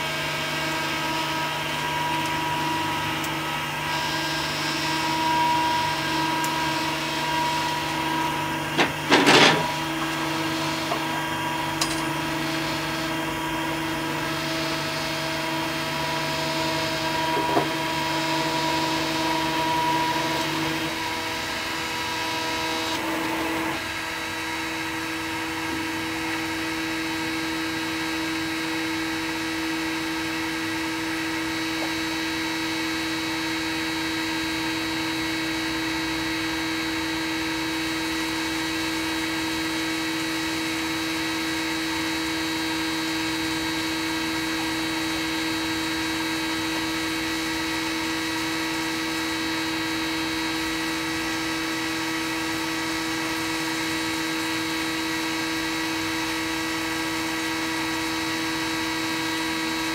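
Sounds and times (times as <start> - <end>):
cooling fans humming with whine: 0.0 - 59.9.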